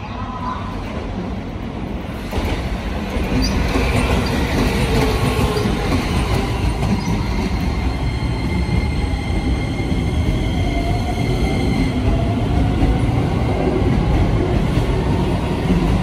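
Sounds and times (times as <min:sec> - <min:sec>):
train wheel and rail rumble: 0:00.0 - 0:16.0.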